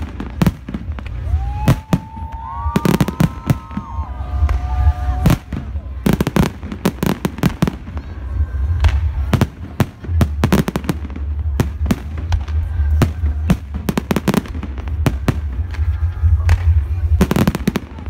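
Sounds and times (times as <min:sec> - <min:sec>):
fireworks bursting with sharp bangs: 0:00.0 - 0:18.0.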